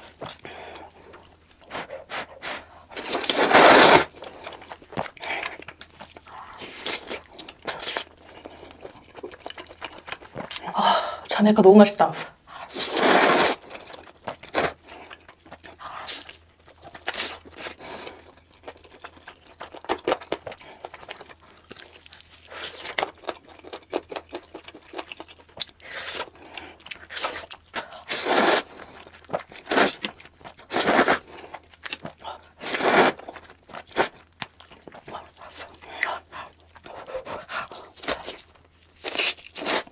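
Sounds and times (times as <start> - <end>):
close chewing and mouth sounds: 0.0 - 39.9.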